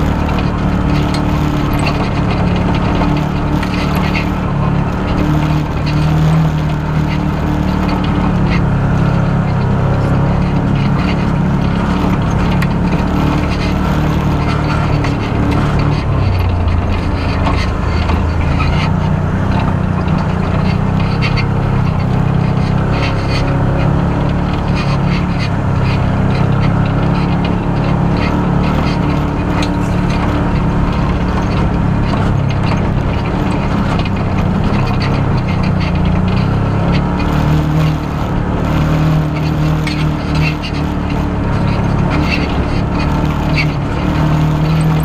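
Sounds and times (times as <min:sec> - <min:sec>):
knocks and rattles from bumps: 0:00.0 - 0:45.0
off-road vehicle engine running: 0:00.0 - 0:45.0.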